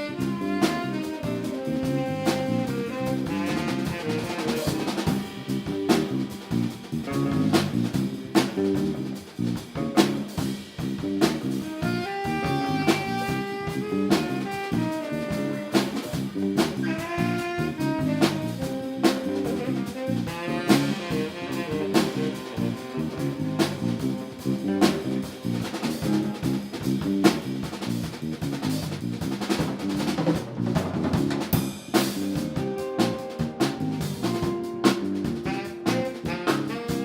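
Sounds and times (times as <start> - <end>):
drum kit hits: 0.0 - 37.0
live jazz band: 0.0 - 37.0.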